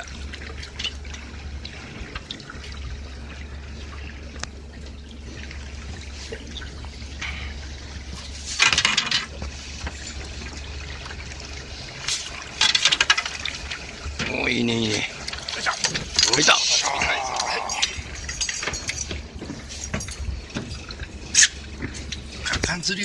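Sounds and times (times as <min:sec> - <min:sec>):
steady low hum: 0:00.0 - 0:23.0
water splashing against boat: 0:00.0 - 0:23.0.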